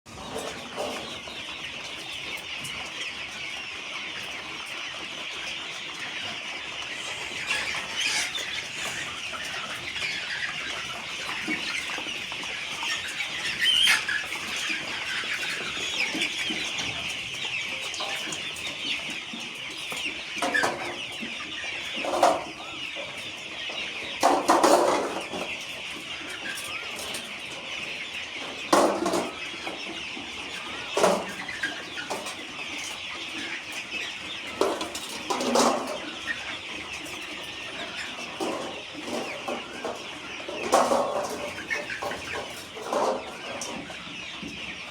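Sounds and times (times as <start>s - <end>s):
chicks peeping: 0.1s - 44.9s.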